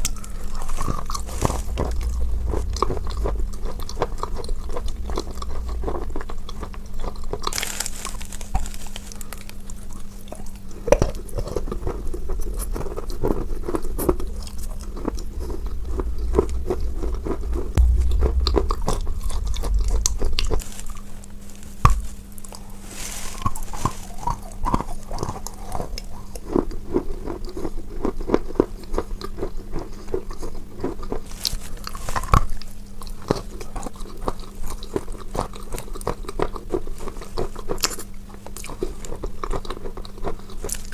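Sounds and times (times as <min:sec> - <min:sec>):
chewing and crunching chalk: 0:00.0 - 0:18.5, 0:21.8 - 0:40.9
steady low hum: 0:00.0 - 0:40.9.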